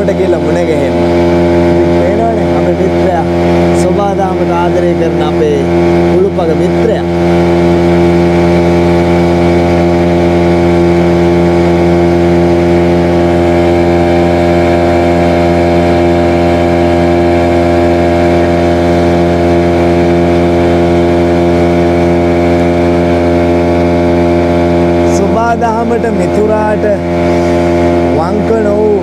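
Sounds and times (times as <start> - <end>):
outboard motor droning: 0.0 - 29.0.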